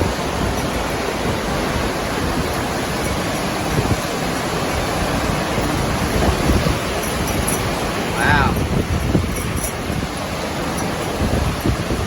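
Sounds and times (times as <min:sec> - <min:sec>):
strong wind blowing: 0:00.0 - 0:12.0
wind buffeting microphone: 0:00.0 - 0:12.0.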